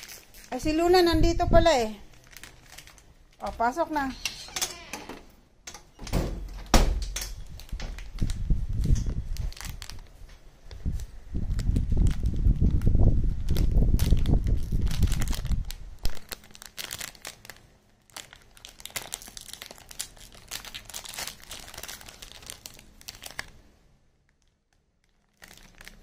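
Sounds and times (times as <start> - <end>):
plastic pouch crinkling: 0.0 - 1.1, 1.8 - 4.9, 7.2 - 23.6, 24.2 - 26.0.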